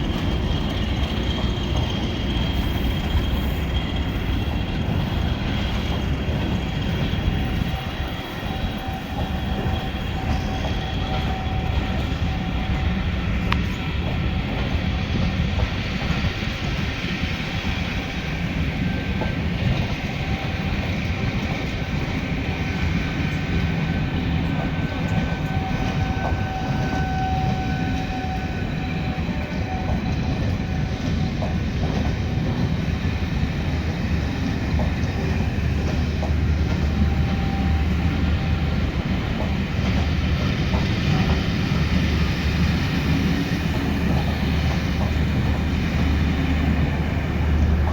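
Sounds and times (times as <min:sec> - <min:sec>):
train passing with rumble: 0:00.0 - 0:47.9.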